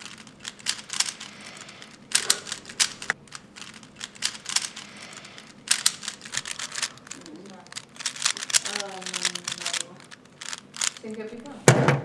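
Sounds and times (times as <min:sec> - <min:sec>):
plastic puzzle cube clicking: 0:00.0 - 0:11.3.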